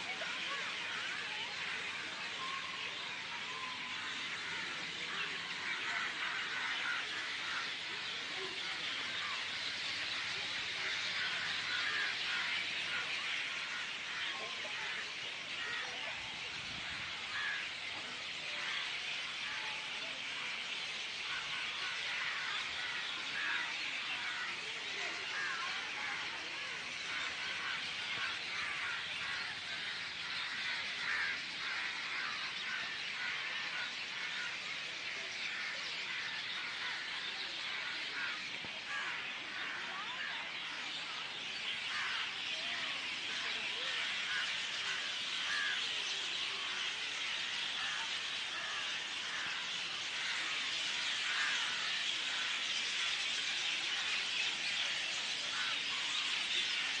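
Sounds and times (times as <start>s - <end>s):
flock of birds chirping: 0.0s - 57.0s.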